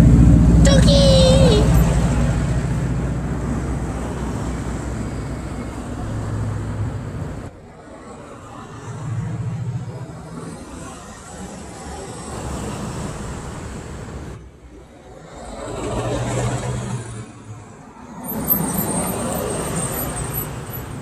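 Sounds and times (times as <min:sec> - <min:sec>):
vehicles passing: 0:00.0 - 0:21.0.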